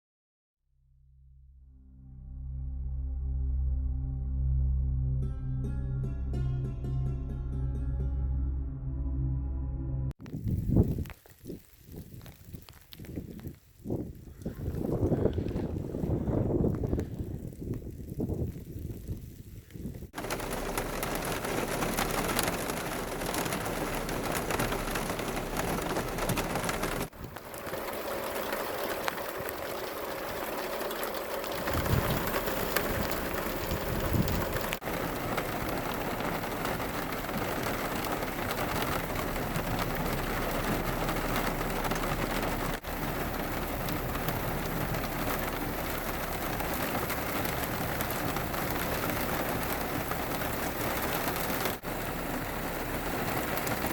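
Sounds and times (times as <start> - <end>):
low rumbles: 1.1 - 53.9
steady rain: 10.3 - 53.9.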